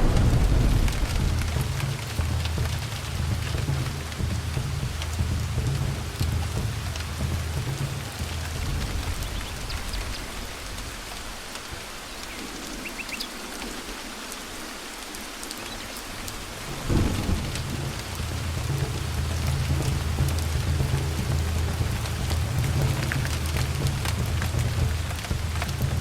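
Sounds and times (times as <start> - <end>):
rolling thunder: 0.0 - 12.8, 16.2 - 26.0
thunderclap: 0.0 - 12.8, 16.2 - 26.0
steady rain: 0.0 - 26.0.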